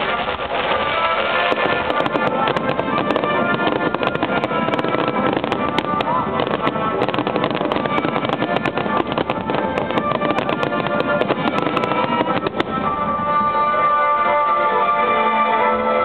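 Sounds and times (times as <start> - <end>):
fireworks bursting and crackling: 0.0 - 14.8
music playing: 0.0 - 16.0.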